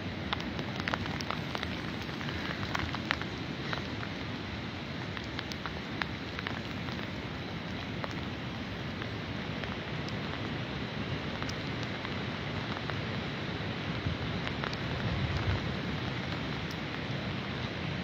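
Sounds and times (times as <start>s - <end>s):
raindrops ticking: 0.0s - 18.0s
wind and rain rushing: 0.0s - 18.0s.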